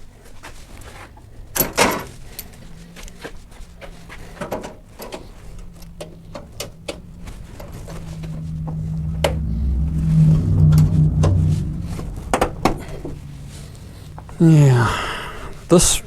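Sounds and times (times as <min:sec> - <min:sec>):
low hum: 0:02.8 - 0:16.0.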